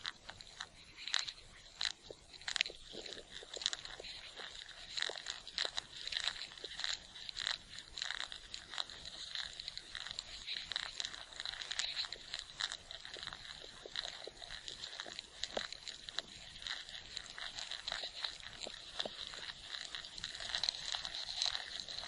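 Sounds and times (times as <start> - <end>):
ant clicks and crackles: 0.0 - 22.0
faint steady high hiss: 0.0 - 22.0.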